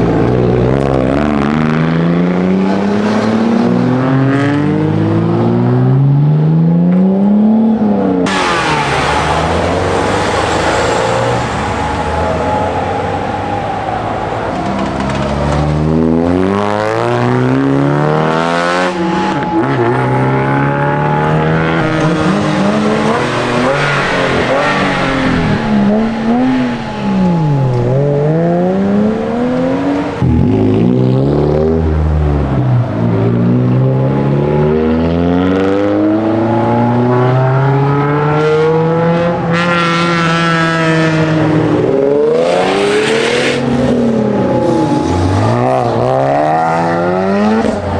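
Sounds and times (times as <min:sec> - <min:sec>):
car engines revving past: 0:00.0 - 0:47.9.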